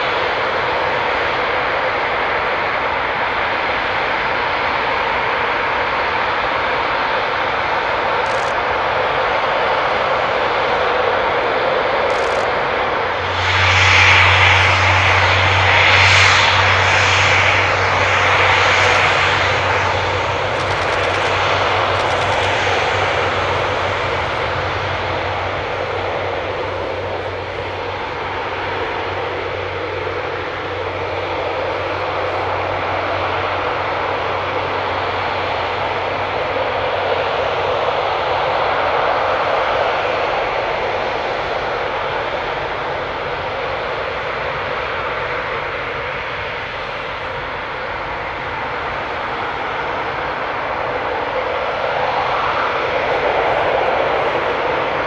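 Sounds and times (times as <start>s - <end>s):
jet engine roar with whine: 0.0s - 55.0s.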